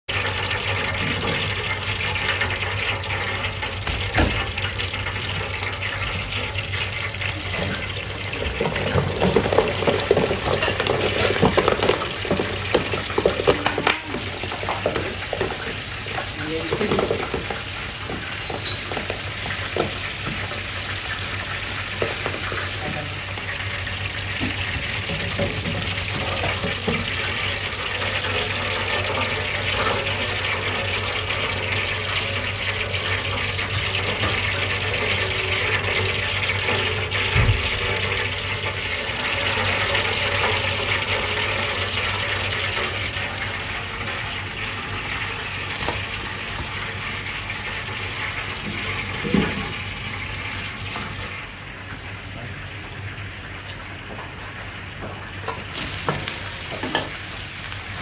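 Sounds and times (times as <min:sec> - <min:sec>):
oil bubbling and sizzling: 0:00.1 - 0:58.0.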